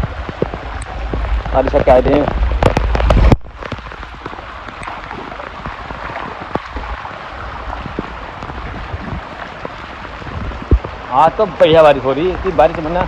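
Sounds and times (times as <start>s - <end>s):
heavy rain pouring: 0.0s - 13.0s
raindrops tapping on surfaces: 0.0s - 13.0s.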